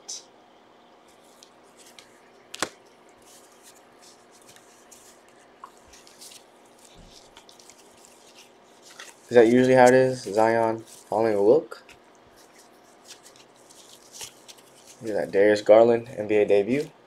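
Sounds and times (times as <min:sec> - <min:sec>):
cards being flipped through: 0:01.1 - 0:15.4.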